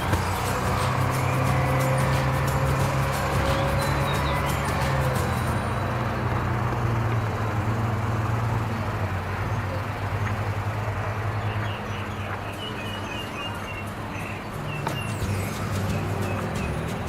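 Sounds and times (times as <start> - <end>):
large engine droning: 0.0 - 17.0.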